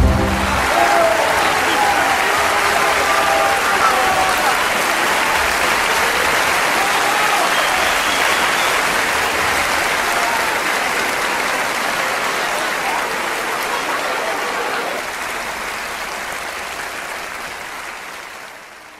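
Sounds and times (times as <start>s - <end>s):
large crowd applauding: 0.0s - 18.9s.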